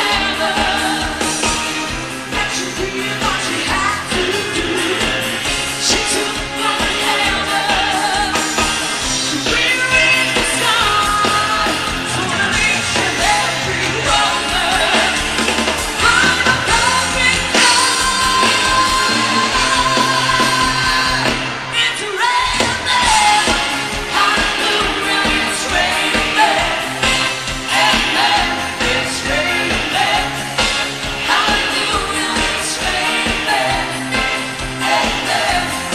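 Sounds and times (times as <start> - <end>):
person singing: 0.0 - 35.9
pop-rock band playing: 0.0 - 35.9.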